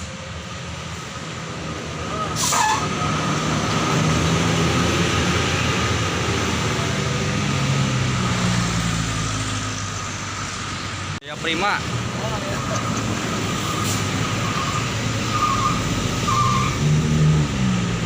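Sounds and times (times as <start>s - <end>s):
bus diesel engine running hard: 0.0s - 18.0s.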